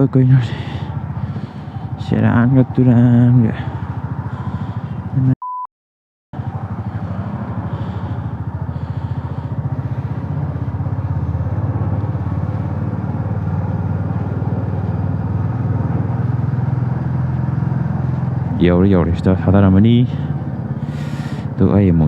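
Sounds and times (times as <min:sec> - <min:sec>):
motorcycle engine running: 0:00.0 - 0:05.4, 0:06.4 - 0:22.0.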